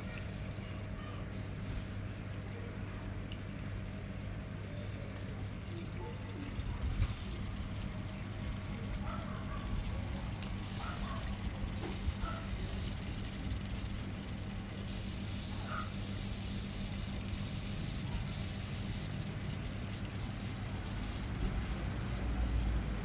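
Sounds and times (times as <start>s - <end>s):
steady low hum: 0.0s - 23.0s
cat drinking water: 0.1s - 23.0s.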